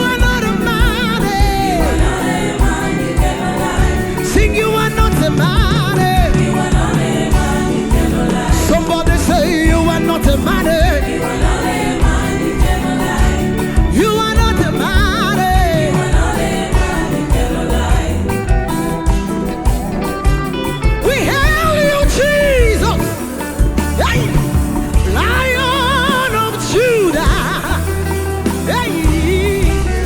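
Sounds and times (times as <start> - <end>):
band with steady beat: 0.0 - 30.0
gospel singing: 0.0 - 30.0.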